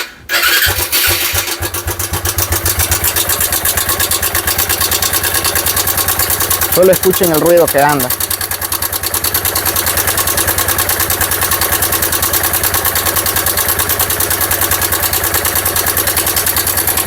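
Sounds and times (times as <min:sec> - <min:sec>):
motorcycle engine idling: 0:00.3 - 0:17.0.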